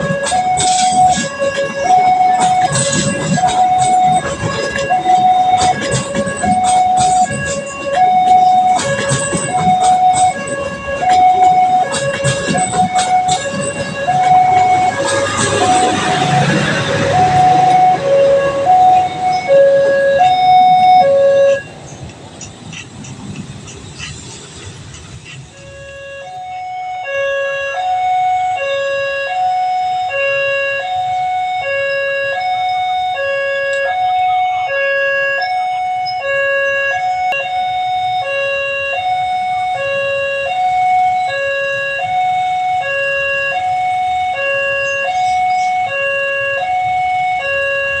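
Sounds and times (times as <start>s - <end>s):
level crossing alarm two-tone: 0.0s - 21.8s, 25.6s - 48.0s.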